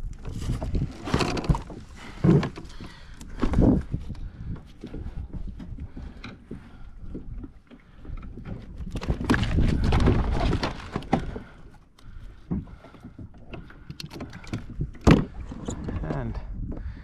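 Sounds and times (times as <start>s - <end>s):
knocks and clatter on kayak: 0.0s - 17.0s.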